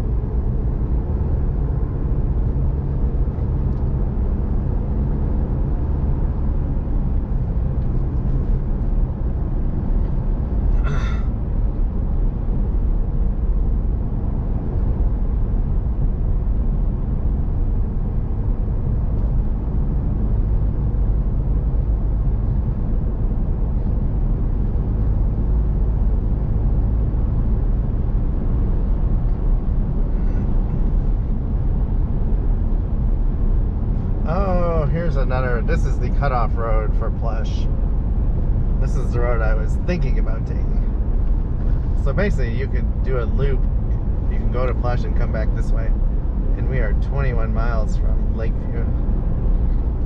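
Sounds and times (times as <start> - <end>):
road noise: 0.0 - 50.0
truck engine rumble: 0.0 - 50.0.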